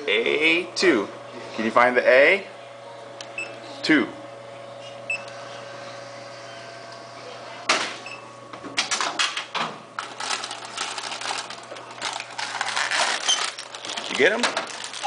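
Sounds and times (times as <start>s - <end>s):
vending machine humming: 0.0s - 15.0s.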